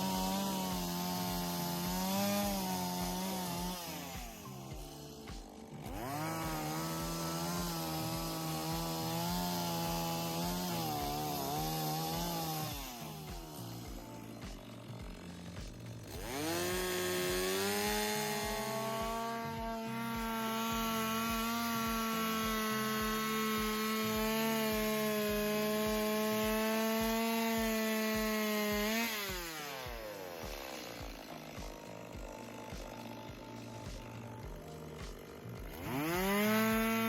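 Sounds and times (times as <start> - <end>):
chainsaw revving and idling: 0.0 - 37.0.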